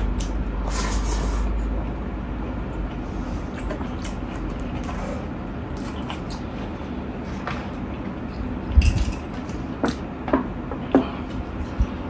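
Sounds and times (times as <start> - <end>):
person chewing food: 0.0 - 10.0
steady low rumble: 0.0 - 12.0.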